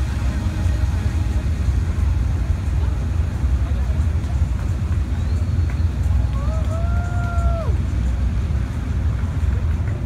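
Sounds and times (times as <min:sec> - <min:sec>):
low outdoor rumble with hiss: 0:00.0 - 0:10.0.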